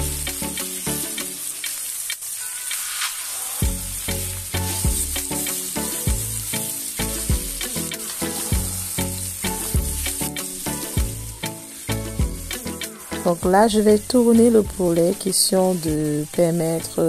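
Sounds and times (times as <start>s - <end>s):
background music with steady beat: 0.0s - 17.0s
chicken and onions sizzling in oil: 0.0s - 17.0s.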